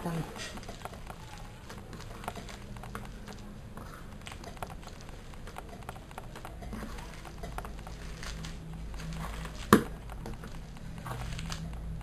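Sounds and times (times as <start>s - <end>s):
low steady hum: 0.0s - 12.0s
hands squishing mashed food: 0.6s - 12.0s.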